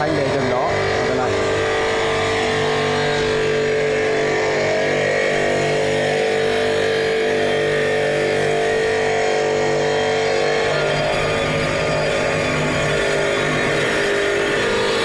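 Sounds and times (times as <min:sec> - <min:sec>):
stone-cutting saw whine: 0:00.0 - 0:15.0.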